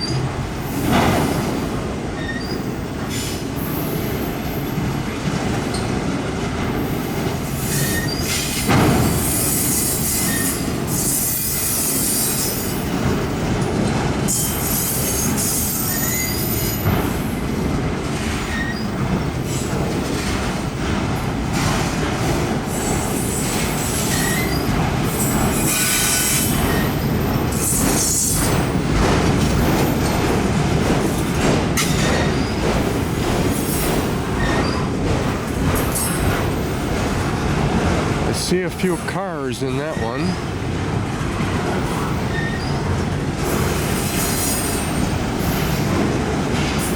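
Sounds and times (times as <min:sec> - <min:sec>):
steel wheels rumbling on rail: 0:00.0 - 0:46.9.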